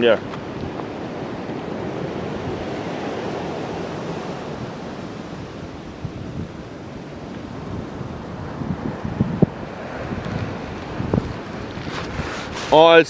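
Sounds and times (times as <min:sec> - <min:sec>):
sea surf breaking: 0:00.0 - 0:13.0
wind buffeting microphone: 0:00.0 - 0:13.0.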